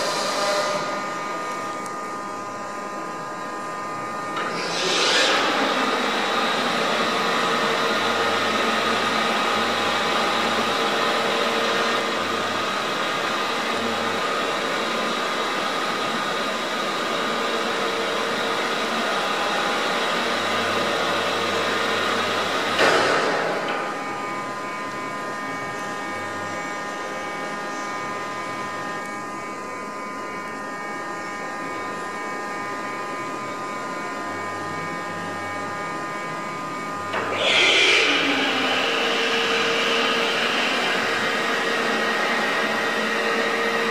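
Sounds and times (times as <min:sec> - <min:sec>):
milling machine humming and whining: 0:00.0 - 0:43.9.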